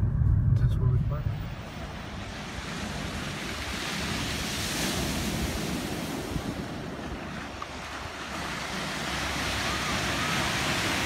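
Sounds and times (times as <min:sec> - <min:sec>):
surf washing over cobblestones: 0:01.2 - 0:11.0.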